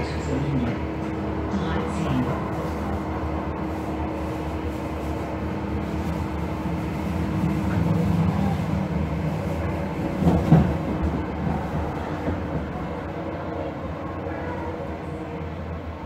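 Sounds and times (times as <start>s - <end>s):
light-rail car rumbling hum: 0.0s - 16.0s.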